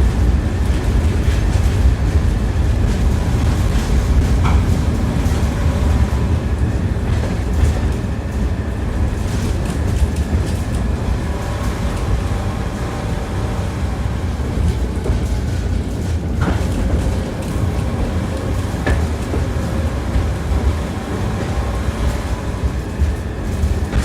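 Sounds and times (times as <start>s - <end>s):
tram rumbling: 0.0s - 24.0s
wheels clattering on rails: 0.0s - 24.0s.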